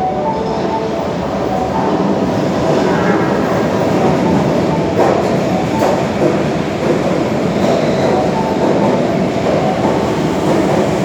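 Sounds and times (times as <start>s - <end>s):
subway train wheels rumbling on rails: 0.0s - 11.0s.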